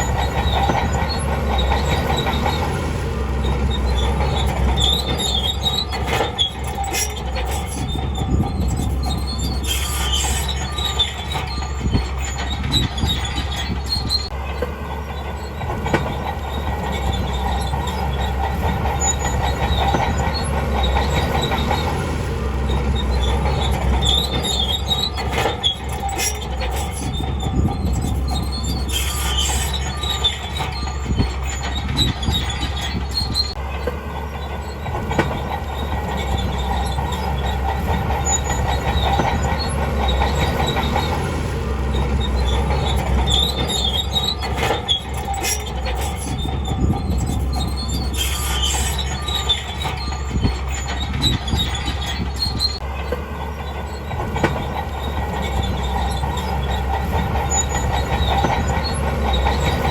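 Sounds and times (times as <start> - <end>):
diesel engine rumbling: 0.0 - 59.9
steel tracks clanking and squealing: 0.0 - 59.9.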